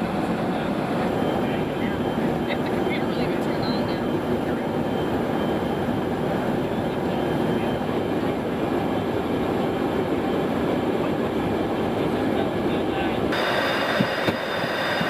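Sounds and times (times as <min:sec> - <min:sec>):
aircraft cabin engine noise: 0:00.0 - 0:15.0.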